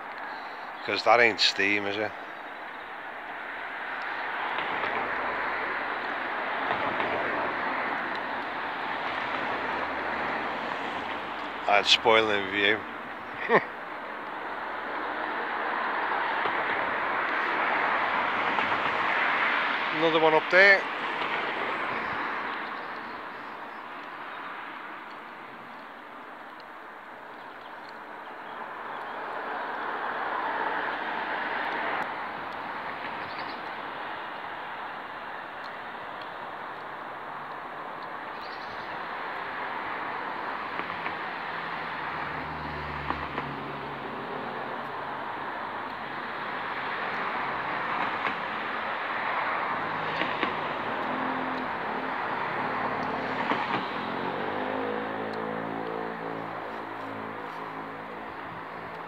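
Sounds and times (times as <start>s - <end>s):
traffic hum: 0.0s - 59.0s
vehicle passing: 0.0s - 59.0s.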